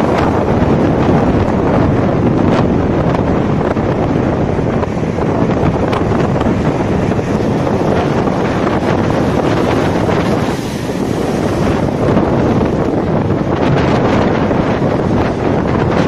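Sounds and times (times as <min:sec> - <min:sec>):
sea wind buffeting microphone: 0:00.0 - 0:16.0
surf washing: 0:00.0 - 0:16.0.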